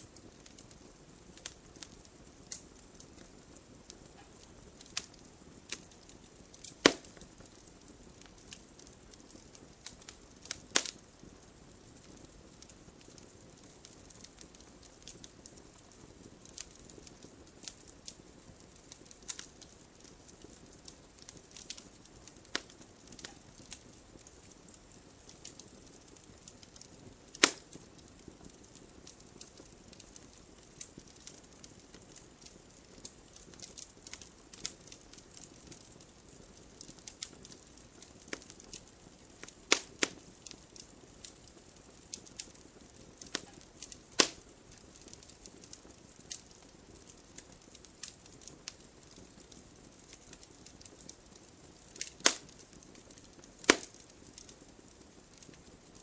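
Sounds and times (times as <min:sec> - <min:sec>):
wood fire crackling: 0:00.0 - 0:56.0
sharp pops from burning logs: 0:00.1 - 0:56.0.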